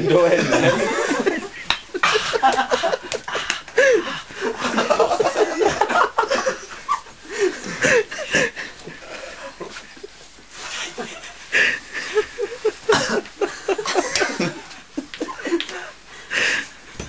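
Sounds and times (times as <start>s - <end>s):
people laughing and snickering: 0.0s - 16.8s.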